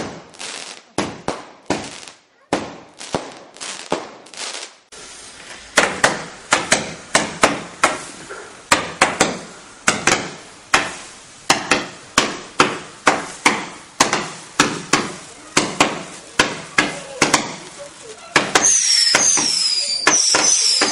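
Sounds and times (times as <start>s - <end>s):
firework cake firing: 0.0s - 20.9s.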